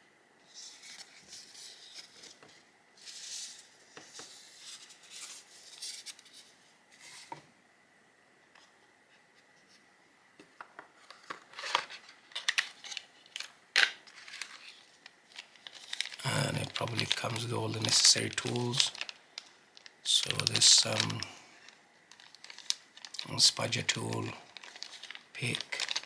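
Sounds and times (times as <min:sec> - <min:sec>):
plastic packaging rustling: 0:00.5 - 0:02.4, 0:03.0 - 0:07.4, 0:11.0 - 0:26.0.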